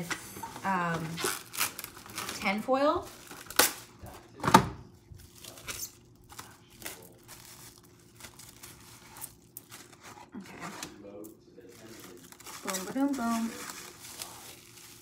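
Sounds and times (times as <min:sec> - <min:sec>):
plastic wrap crinkling: 0:00.4 - 0:04.2, 0:05.1 - 0:15.0.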